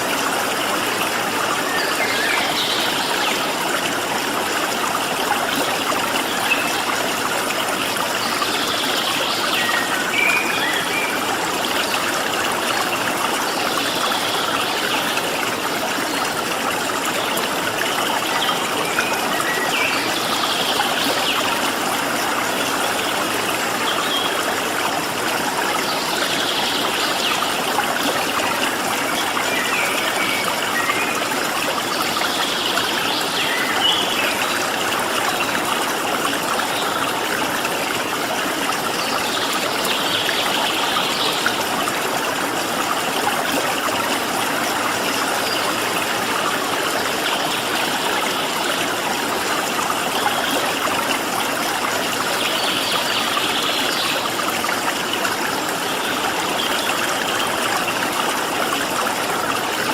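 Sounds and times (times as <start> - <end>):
stream of water flowing: 0.0 - 59.9.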